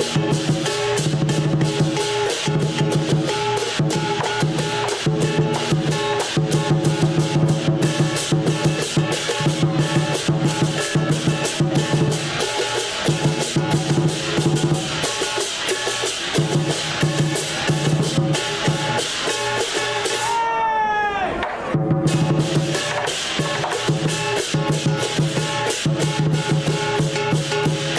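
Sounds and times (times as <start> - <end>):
big drum beating rapidly: 0.0 - 20.3, 21.7 - 27.9.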